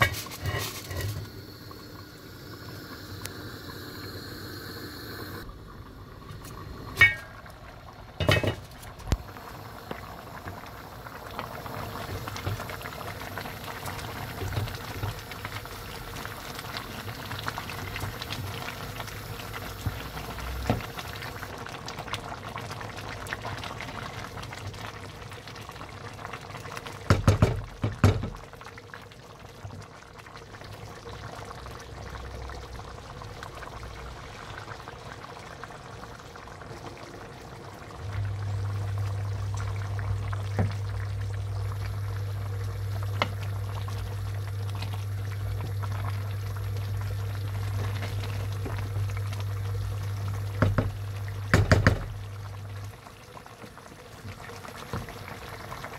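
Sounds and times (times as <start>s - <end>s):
rice boiling in a pot: 0.0s - 55.9s.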